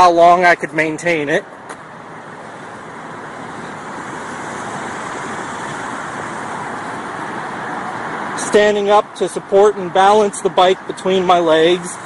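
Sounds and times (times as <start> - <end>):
road traffic hiss and hum: 0.0 - 12.0.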